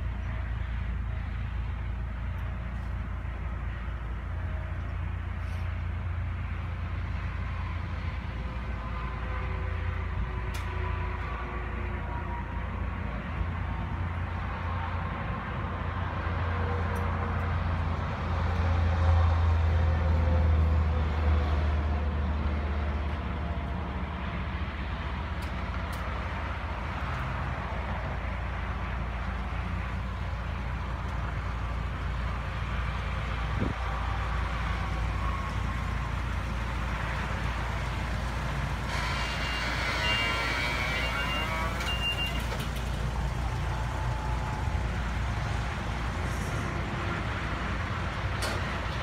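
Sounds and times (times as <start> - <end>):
tram engine running: 0.0 - 49.0.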